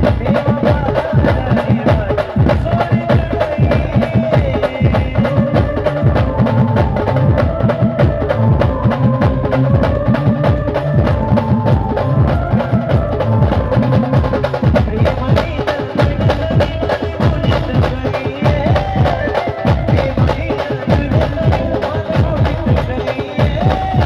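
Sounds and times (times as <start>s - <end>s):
fast dense drumming: 0.0s - 24.0s
held melody line: 0.0s - 24.0s.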